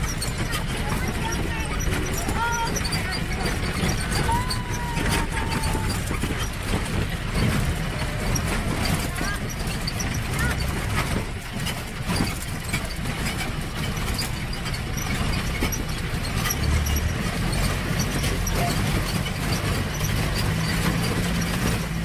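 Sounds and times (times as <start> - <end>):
car body knocking and rattling: 0.0 - 22.0
car engine rumbling: 0.0 - 22.0.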